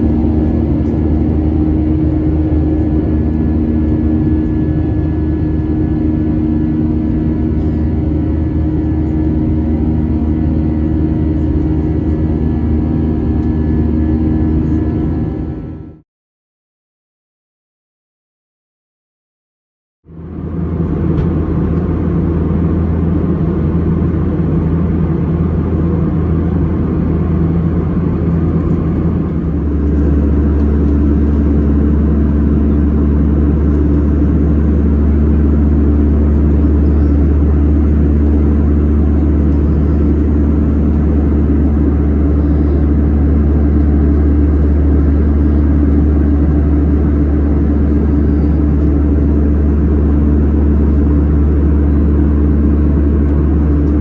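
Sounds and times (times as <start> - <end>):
steady hum: 0.0 - 15.7, 20.4 - 54.0
airplane cabin rumble: 0.0 - 16.0, 20.1 - 54.0.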